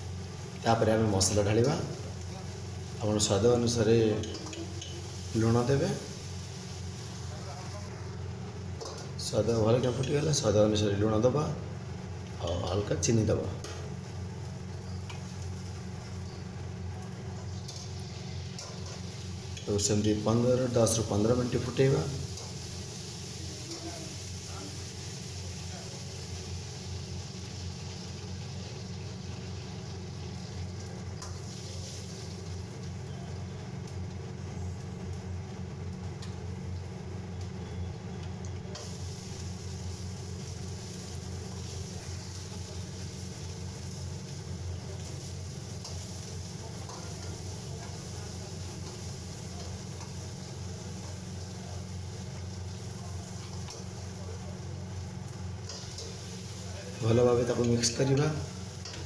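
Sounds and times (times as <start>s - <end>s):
sauce bubbling and sizzling: 0.0s - 10.4s, 13.6s - 59.0s
steady low hum: 0.0s - 59.0s.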